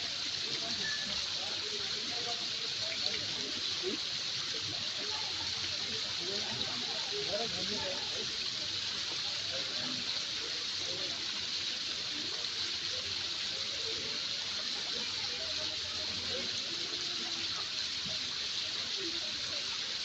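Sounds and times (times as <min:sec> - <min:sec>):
faint voices: 0:00.0 - 0:20.0.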